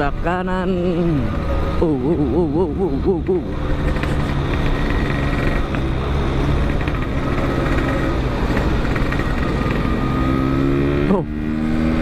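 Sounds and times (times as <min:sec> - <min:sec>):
motorcycle engine running: 0:00.0 - 0:12.0
road and wind rumble: 0:00.0 - 0:12.0.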